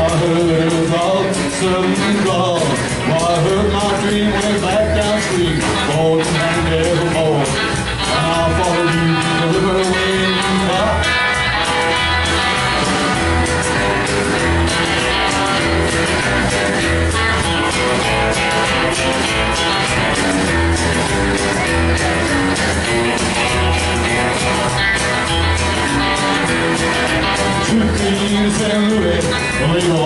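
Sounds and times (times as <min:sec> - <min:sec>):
rockabilly band playing: 0:00.0 - 0:30.0.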